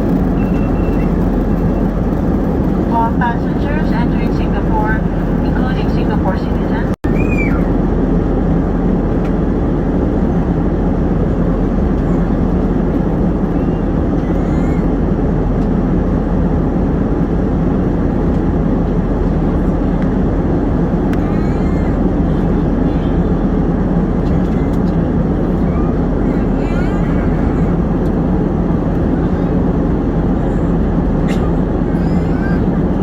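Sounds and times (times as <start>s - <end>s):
airliner cabin engine roar: 0.0s - 33.0s.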